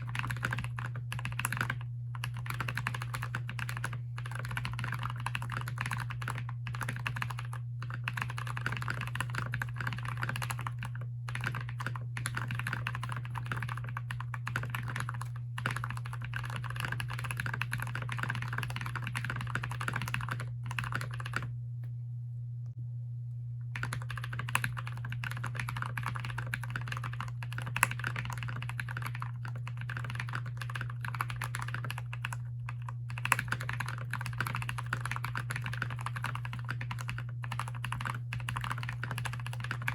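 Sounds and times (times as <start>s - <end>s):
mechanical keyboard typing: 0.0s - 21.5s, 23.8s - 39.9s
steady low hum: 0.0s - 39.9s.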